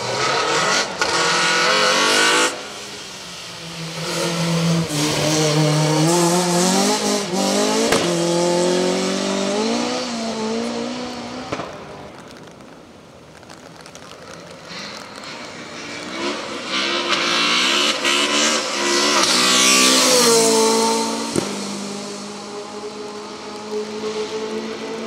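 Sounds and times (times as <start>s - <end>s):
race car engine revving: 0.0s - 3.0s, 3.6s - 11.6s, 15.0s - 25.0s.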